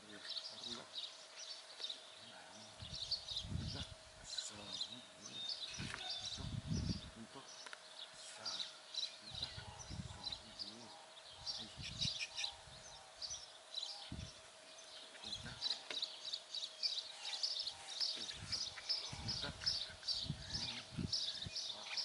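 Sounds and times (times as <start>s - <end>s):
faint steady hum: 0.0s - 22.0s
small birds chirping: 0.0s - 22.0s.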